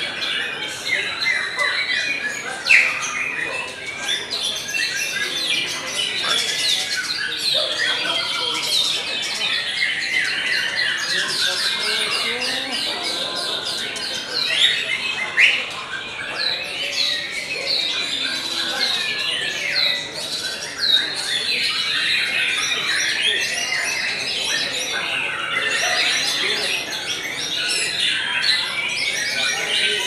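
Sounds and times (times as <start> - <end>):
other songbirds calling: 0.0 - 30.0.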